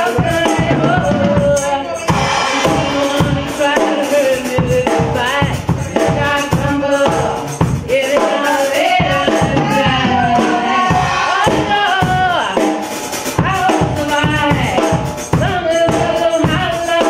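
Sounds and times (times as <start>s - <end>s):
woman singing into a microphone: 0.0s - 12.8s, 13.4s - 17.0s
live band music: 0.0s - 17.0s
steady drum beat: 0.0s - 17.0s.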